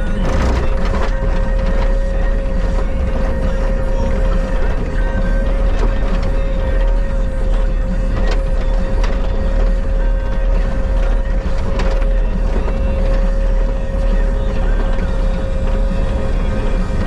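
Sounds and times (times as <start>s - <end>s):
skid steer engine rumbling: 0.0s - 17.0s.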